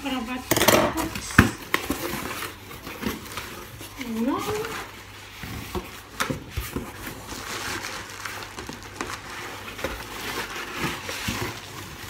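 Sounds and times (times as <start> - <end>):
packaging rustling: 1.0 - 12.0.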